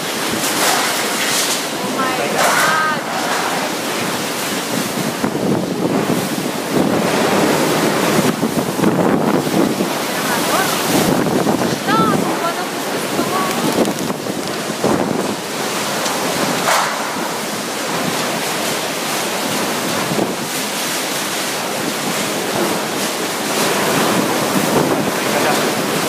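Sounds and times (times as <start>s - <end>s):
strong wind: 0.0s - 26.0s
wind buffeting microphone: 0.0s - 26.0s
wind-driven rain: 0.0s - 26.0s.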